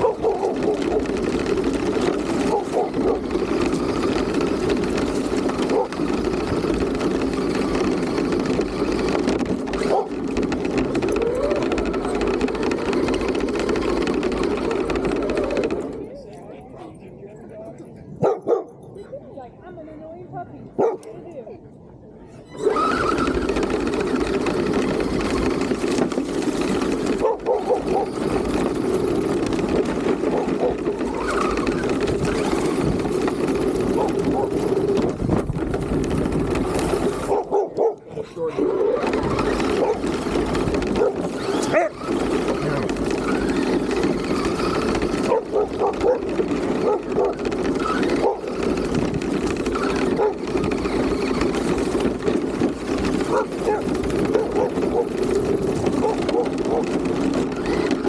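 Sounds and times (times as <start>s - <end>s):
rc car driving over dirt: 0.0s - 16.6s, 22.4s - 58.0s.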